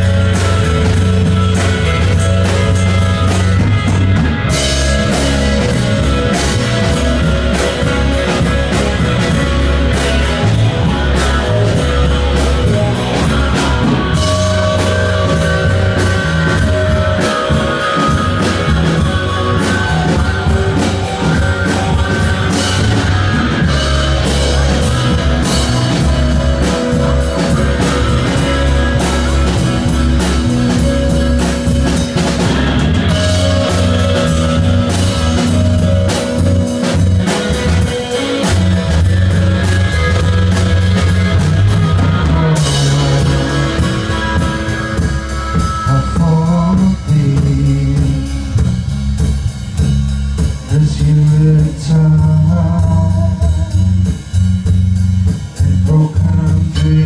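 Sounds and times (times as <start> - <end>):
bass: 0.0 - 57.0
drum kit: 0.0 - 57.0
electric guitar: 0.0 - 57.0
keyboard: 0.0 - 57.0.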